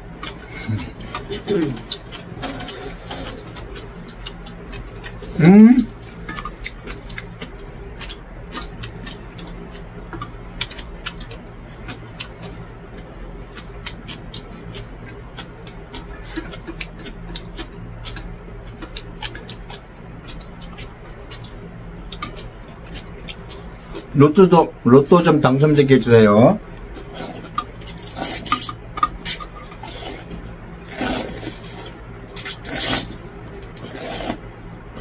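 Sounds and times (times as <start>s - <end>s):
steady low hum: 0.0s - 35.0s
person chewing and slurping noodles: 0.1s - 24.2s, 26.9s - 35.0s.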